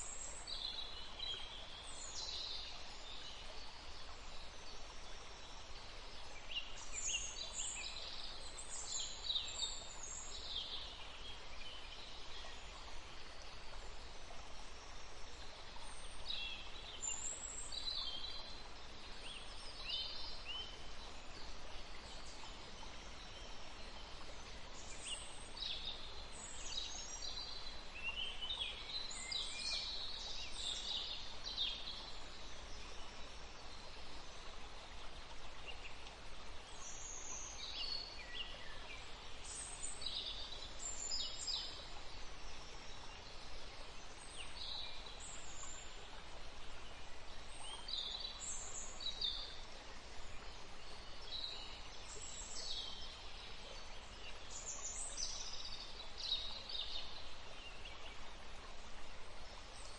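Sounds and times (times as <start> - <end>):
forest ambience hiss: 0.0 - 59.9.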